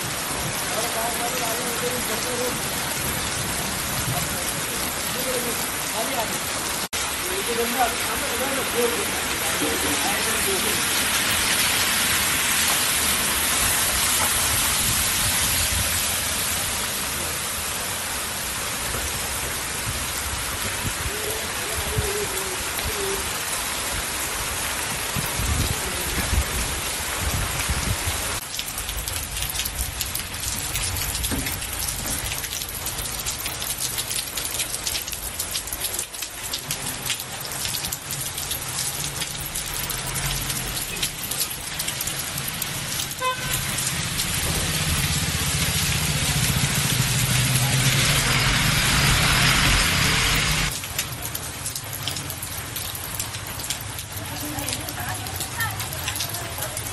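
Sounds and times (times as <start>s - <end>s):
heavy rain on a wet street: 0.0s - 56.9s.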